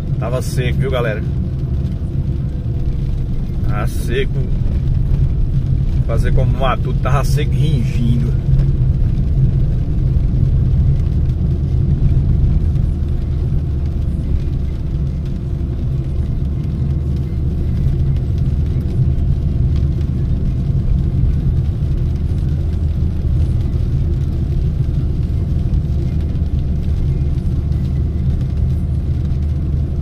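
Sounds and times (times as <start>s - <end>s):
car engine and tyre hum: 0.0s - 30.0s.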